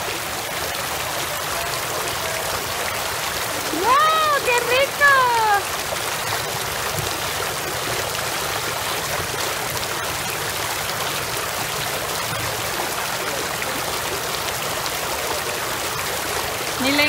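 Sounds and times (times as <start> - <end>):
water jets splashing in pool: 0.0 - 17.0.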